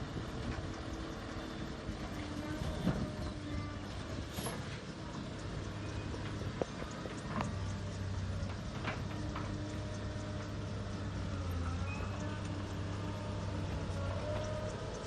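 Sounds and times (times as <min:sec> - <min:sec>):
diesel engine of earthmoving machine: 0:00.0 - 0:15.0.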